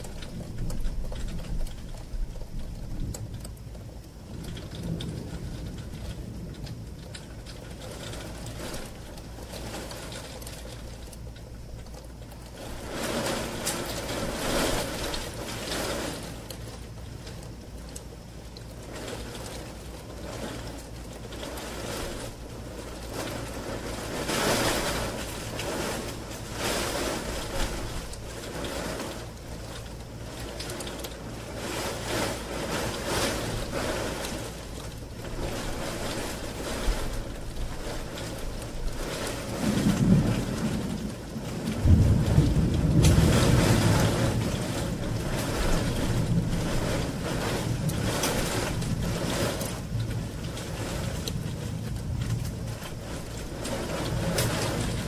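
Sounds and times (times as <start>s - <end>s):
distant thunder rumbling: 0.0s - 11.0s, 12.6s - 17.4s, 18.8s - 55.0s
rain pattering on a window: 0.0s - 55.0s.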